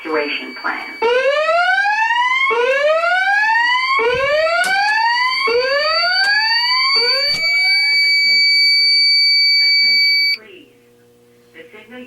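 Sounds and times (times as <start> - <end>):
fire alarm whoop tone: 0.0 - 10.4
steady high alarm tone: 0.0 - 10.4.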